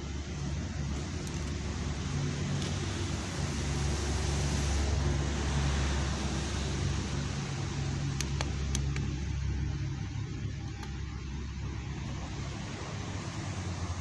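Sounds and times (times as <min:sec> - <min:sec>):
low background rumble and hiss: 0:00.0 - 0:14.0.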